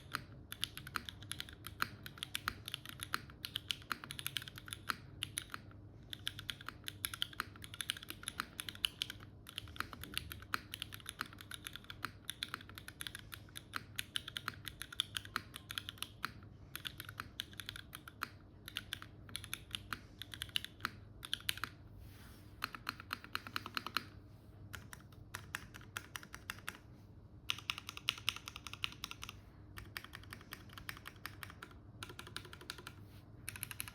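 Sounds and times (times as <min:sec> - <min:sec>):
mechanical keyboard typing: 0:00.0 - 0:21.8, 0:22.6 - 0:33.9.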